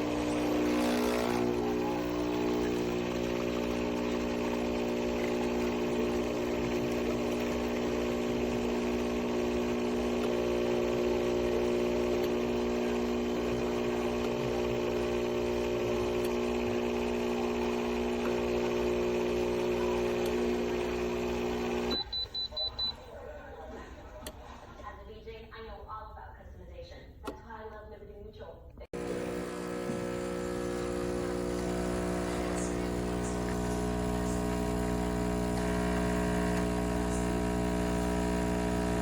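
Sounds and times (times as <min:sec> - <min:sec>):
espresso machine pump humming: 0:00.0 - 0:22.9, 0:28.9 - 0:39.0.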